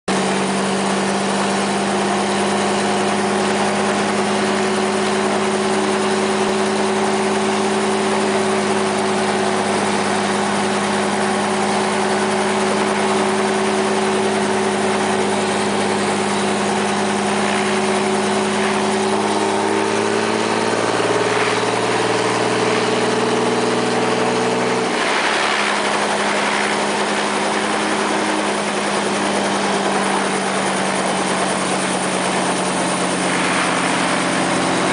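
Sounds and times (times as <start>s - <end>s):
helicopter engine idling: 0.1s - 34.9s.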